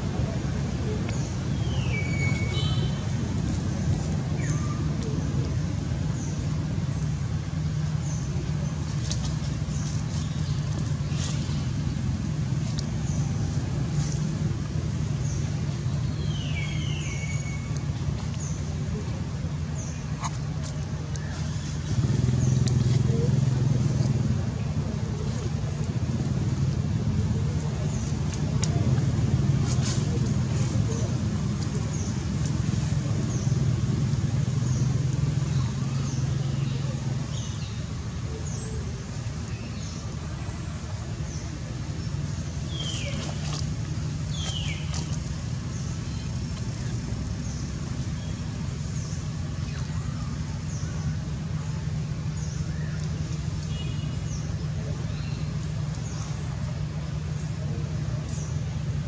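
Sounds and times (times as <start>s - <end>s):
low motor hum: 0.0s - 59.0s.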